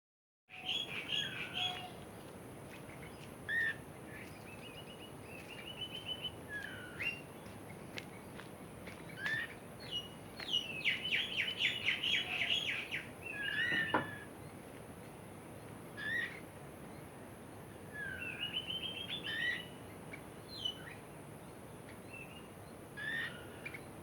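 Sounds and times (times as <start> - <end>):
songbirds chirping: 0.5 - 24.0.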